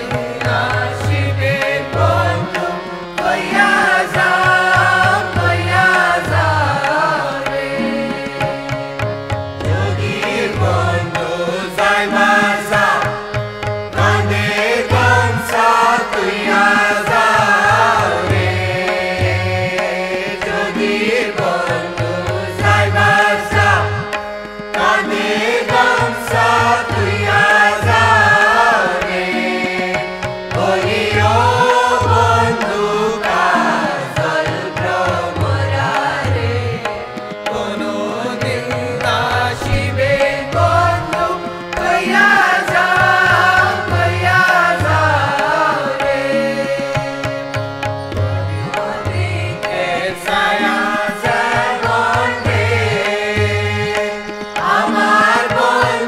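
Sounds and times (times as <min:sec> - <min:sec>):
classical singing: 0:00.0 - 0:56.0
tabla rhythm: 0:00.0 - 0:56.0.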